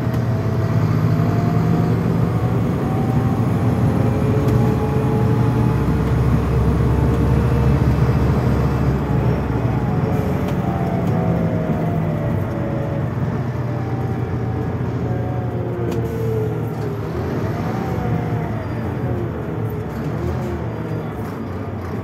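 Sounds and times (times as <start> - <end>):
bus diesel engine running: 0.0 - 22.0
drivetrain whine: 0.0 - 22.0.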